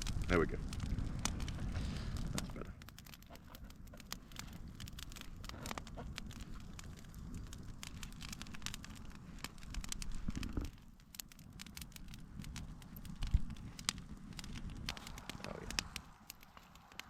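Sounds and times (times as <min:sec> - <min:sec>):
campfire crackling: 0:00.0 - 0:17.0
campfire pops: 0:00.0 - 0:17.0.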